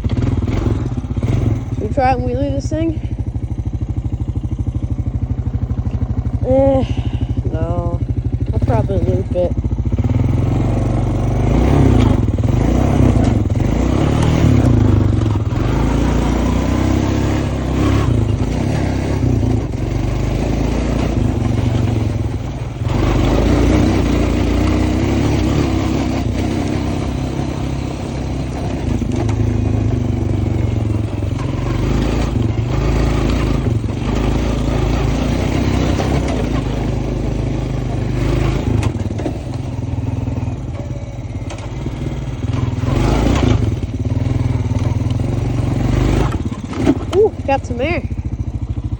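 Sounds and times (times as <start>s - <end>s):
quad bike engine running: 0.0s - 48.9s.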